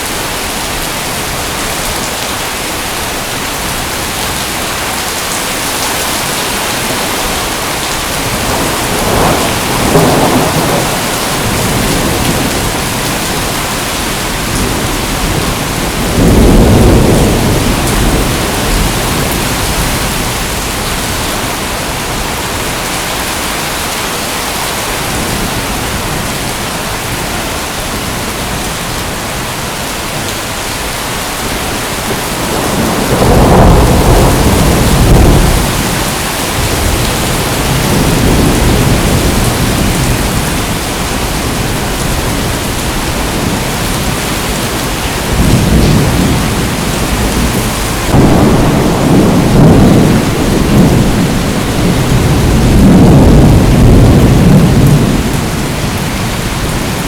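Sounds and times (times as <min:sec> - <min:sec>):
thunder rumbling: 0:03.6 - 0:23.8, 0:30.6 - 0:57.0.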